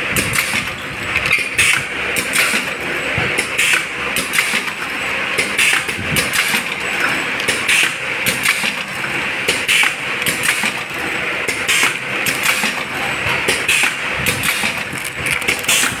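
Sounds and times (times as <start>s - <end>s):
packing machine running: 0.0s - 16.0s
machine jaws clicking and clacking: 0.1s - 16.0s.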